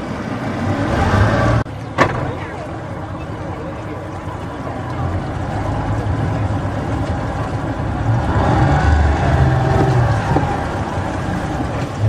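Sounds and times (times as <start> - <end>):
speedboat engine running: 0.0 - 12.0.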